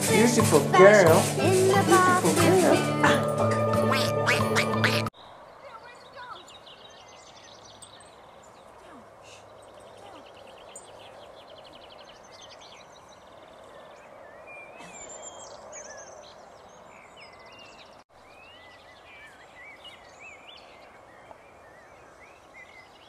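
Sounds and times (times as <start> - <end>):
open-air background hiss: 0.0 - 4.4, 5.0 - 23.0
songbirds singing: 3.5 - 23.0.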